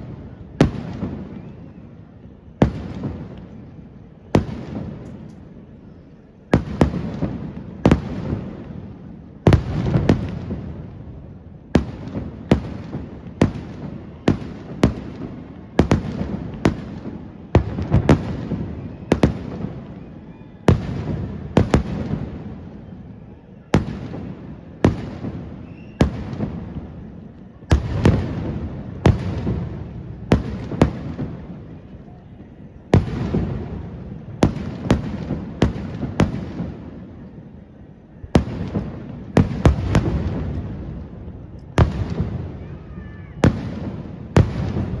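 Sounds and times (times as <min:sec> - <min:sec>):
fireworks bursting with echo: 0:00.0 - 0:45.0.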